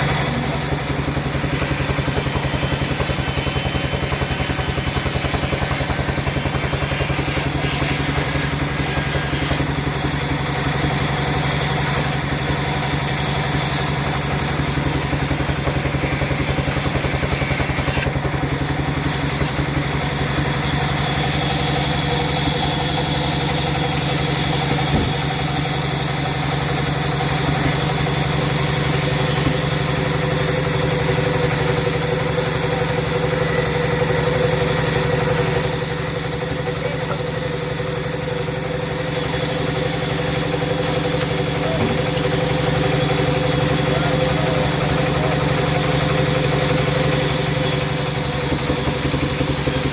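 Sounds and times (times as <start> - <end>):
sawmill machinery droning: 0.0 - 49.9.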